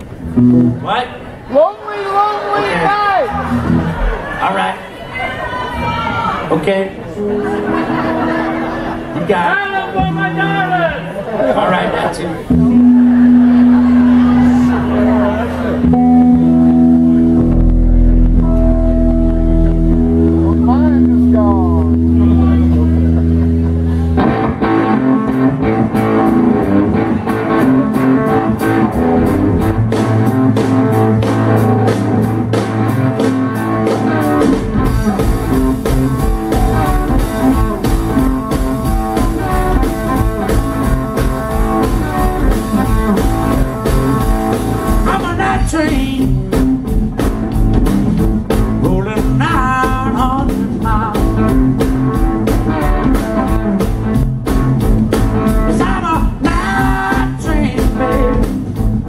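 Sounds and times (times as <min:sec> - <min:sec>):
bent electric guitar notes: 0:00.0 - 0:01.4, 0:03.2 - 0:04.3, 0:07.0 - 0:11.2, 0:12.4 - 0:59.0
blues band playing: 0:00.0 - 0:59.0.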